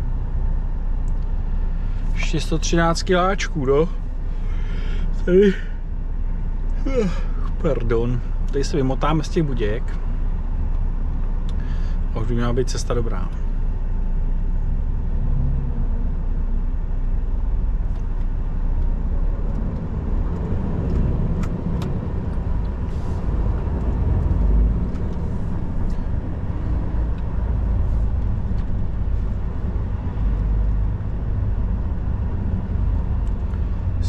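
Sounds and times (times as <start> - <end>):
diesel engine rumble: 0.0 - 34.0
road noise: 0.0 - 34.0.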